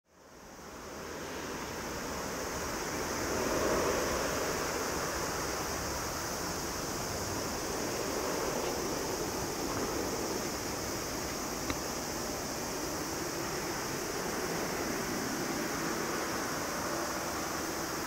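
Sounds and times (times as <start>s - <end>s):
jet engines running: 2.5s - 18.0s.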